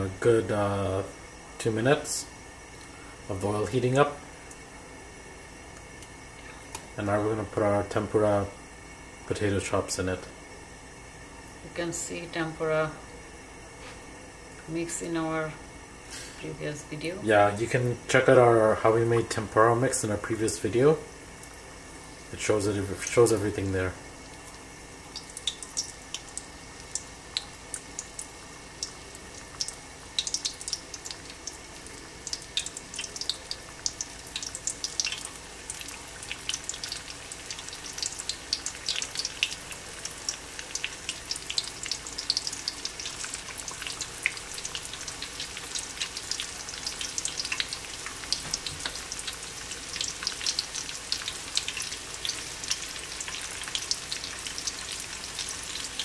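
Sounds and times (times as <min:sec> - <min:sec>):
food frying in hot oil: 0:00.0 - 0:56.0.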